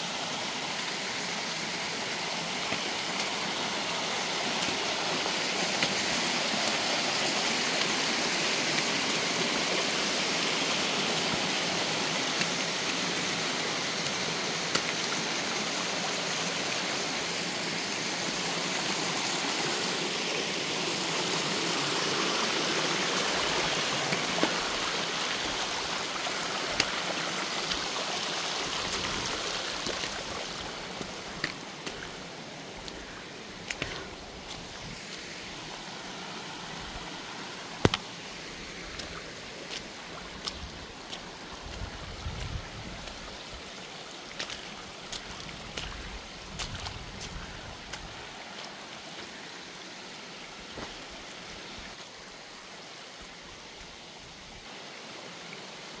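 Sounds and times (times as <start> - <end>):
creek water running over rocks: 0.0 - 56.0.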